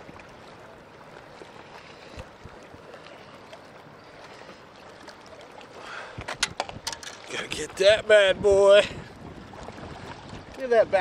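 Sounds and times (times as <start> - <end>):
lake water at shoreline: 0.0 - 11.0
wind: 0.0 - 11.0.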